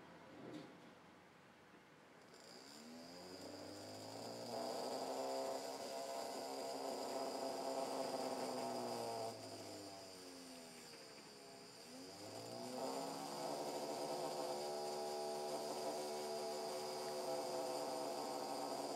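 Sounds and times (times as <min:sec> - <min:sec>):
faint high whine: 0:02.0 - 0:18.9
small motor buzzing hum: 0:02.2 - 0:18.9.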